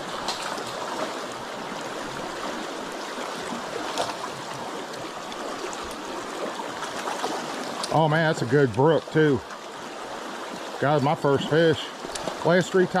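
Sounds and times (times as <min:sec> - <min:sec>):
stream water flowing over rocks: 0:00.0 - 0:13.0.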